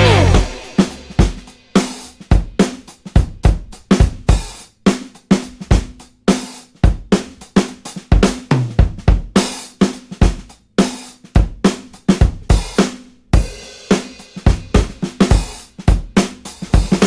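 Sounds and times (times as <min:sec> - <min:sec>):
drum kit playing a steady beat: 0:00.0 - 0:17.0.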